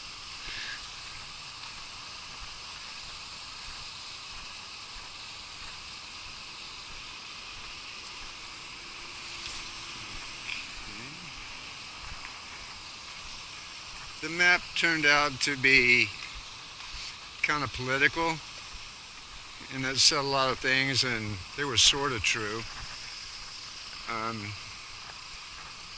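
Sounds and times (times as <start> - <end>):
outdoor background hiss: 0.0 - 25.9.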